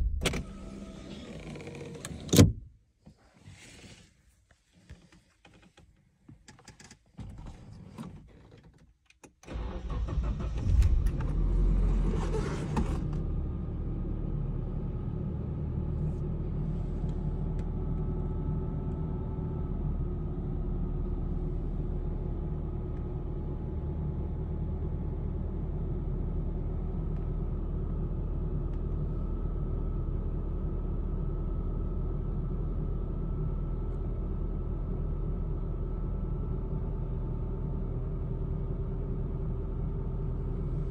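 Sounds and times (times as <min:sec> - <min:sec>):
car engine cold-starting and idling: 0:00.0 - 0:02.6, 0:09.3 - 0:40.9.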